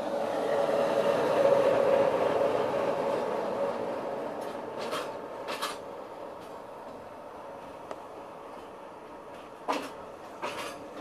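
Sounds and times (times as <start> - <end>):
steady train whine: 0.0 - 11.0
trains passing with rumble: 0.0 - 11.0.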